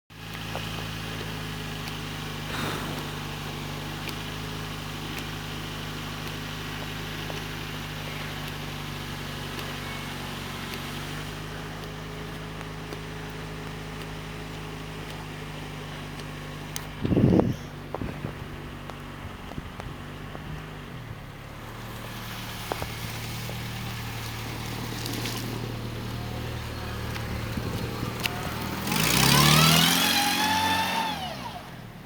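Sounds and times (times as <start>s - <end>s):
car engine idling: 0.1s - 32.0s.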